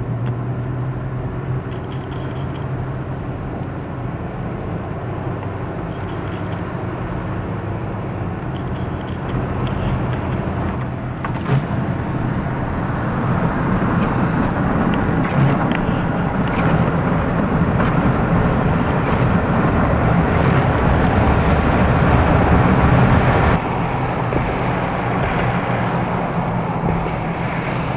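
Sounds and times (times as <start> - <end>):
blizzard wind gusts: 0.0 - 27.9.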